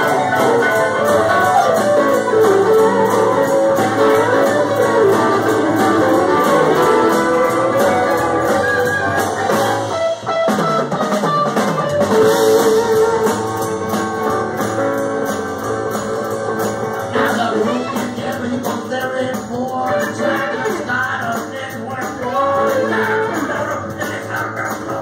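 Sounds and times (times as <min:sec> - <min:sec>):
blues-rock band playing: 0:00.0 - 0:25.0
electric guitar: 0:00.0 - 0:25.0.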